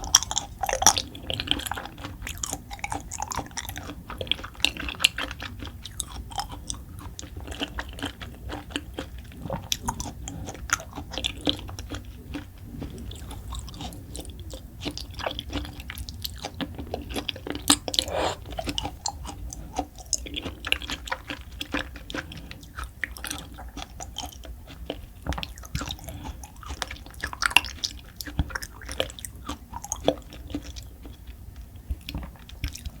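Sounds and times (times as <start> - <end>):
chewing raw food: 0.0 - 33.0.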